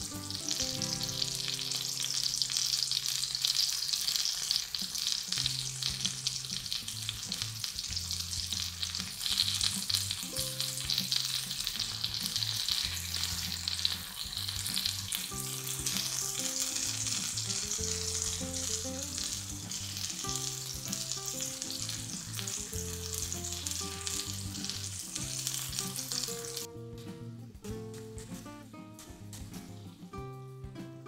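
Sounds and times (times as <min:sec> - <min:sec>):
vegetables sizzling in oil: 0:00.0 - 0:26.7
soft background music: 0:00.0 - 0:31.0.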